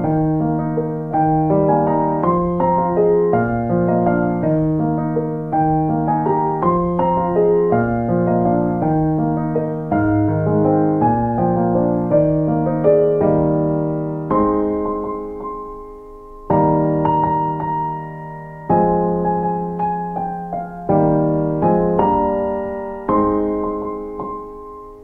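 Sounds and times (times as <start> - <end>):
solo piano chords: 0.0 - 25.0.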